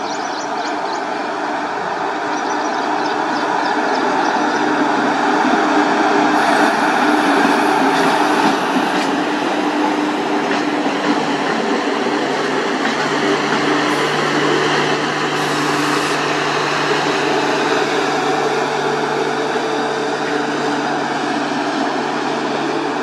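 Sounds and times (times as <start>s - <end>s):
train wheels rolling on rails: 0.0s - 23.0s.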